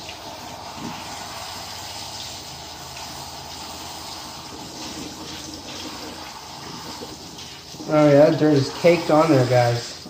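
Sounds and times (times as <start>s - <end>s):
faucet running into sink: 0.0s - 10.0s
water splashing: 0.0s - 10.0s.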